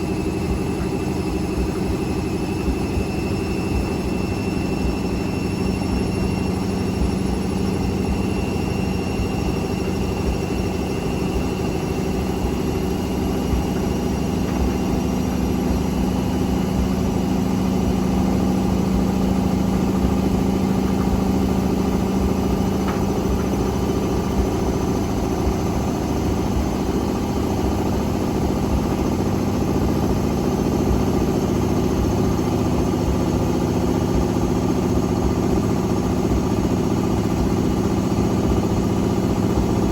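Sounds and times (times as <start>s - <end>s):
motor whine: 0.0s - 39.9s
washing machine drum spinning: 0.0s - 39.9s.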